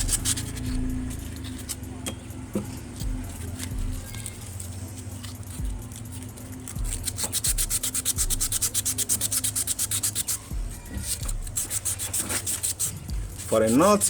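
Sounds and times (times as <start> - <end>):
scrubbing rust off metal: 0.0 - 14.0.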